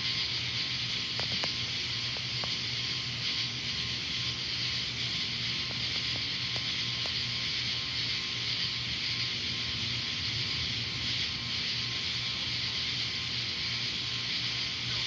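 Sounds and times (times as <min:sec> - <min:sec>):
high-pitched night ambience hiss: 0:00.0 - 0:15.0.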